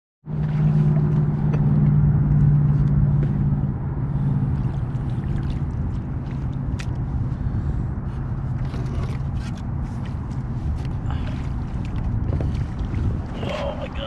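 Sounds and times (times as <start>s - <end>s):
engine humming with rumble: 0.3s - 14.0s.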